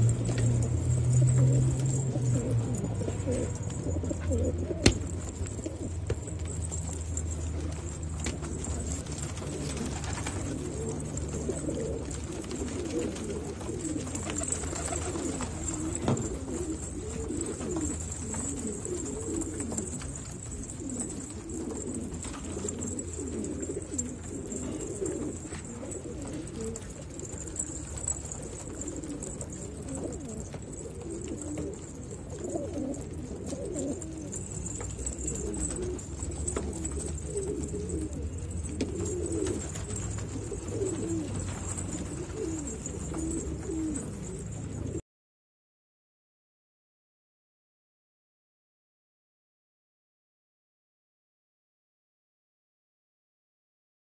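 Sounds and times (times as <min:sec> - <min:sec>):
pigeons cooing: 0:00.0 - 0:45.0.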